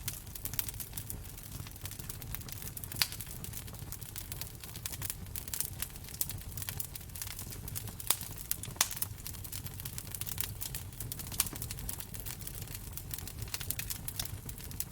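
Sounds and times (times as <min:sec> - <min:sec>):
low rumble of flame: 0:00.0 - 0:14.9
wood fire crackling: 0:00.0 - 0:14.9.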